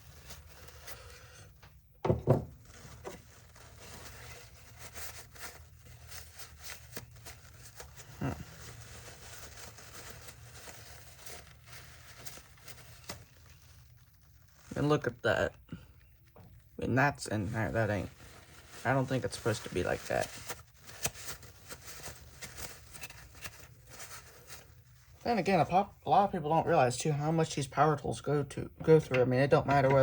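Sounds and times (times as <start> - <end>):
paper towel rubbing and crinkling: 0.0 - 1.6, 2.6 - 15.6, 16.2 - 25.9.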